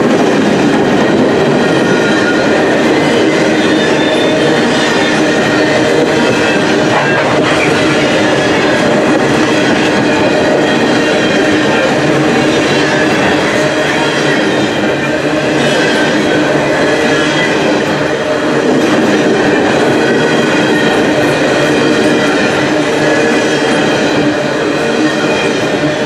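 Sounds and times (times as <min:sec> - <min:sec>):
train wheels rumbling and clattering: 0:00.0 - 0:26.0.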